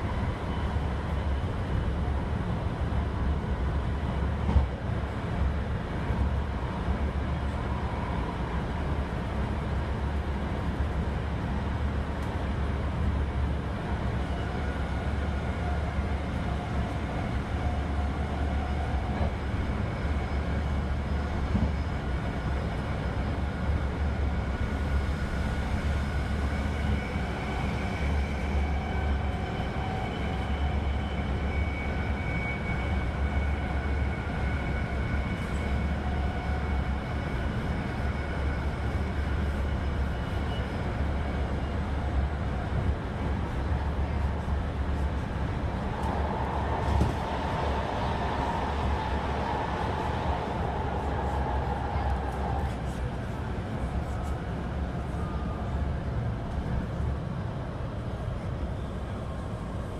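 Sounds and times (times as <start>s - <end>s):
subway train rumbling: 0.0s - 59.9s.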